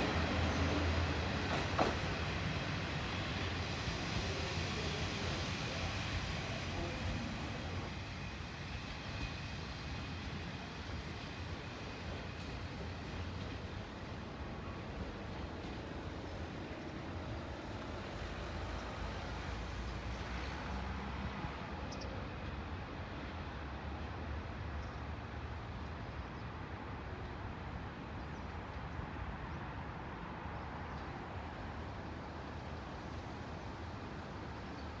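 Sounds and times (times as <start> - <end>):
diesel railcar rumbling: 0.0 - 35.0.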